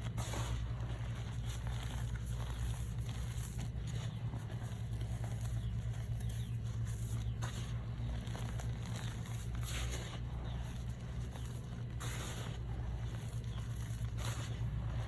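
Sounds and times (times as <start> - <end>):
powder blocks crunching: 0.0 - 15.0
steady low hum: 0.0 - 15.0.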